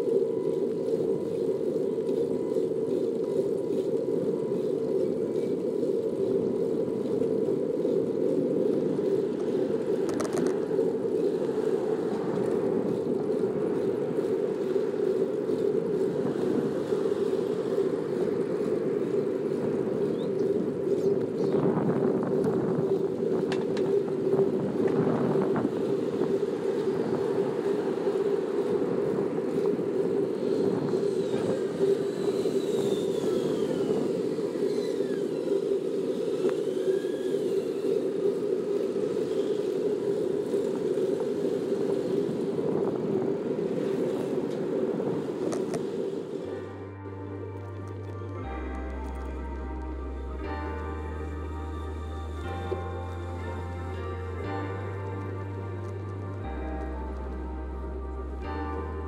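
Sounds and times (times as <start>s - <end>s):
bicycle rolling on asphalt: 0.0s - 59.0s.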